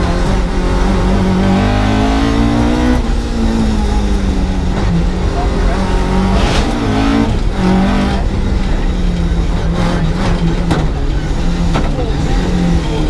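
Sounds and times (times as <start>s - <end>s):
car engine running under load: 0.0s - 13.0s.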